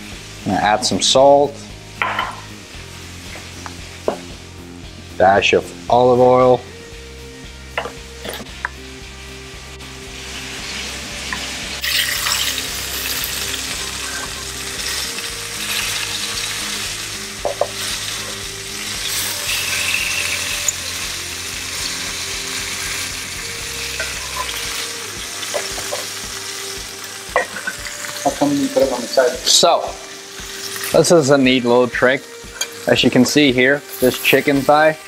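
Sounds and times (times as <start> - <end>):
meat sizzling in hot oil: 0.0 - 5.2, 7.0 - 35.0.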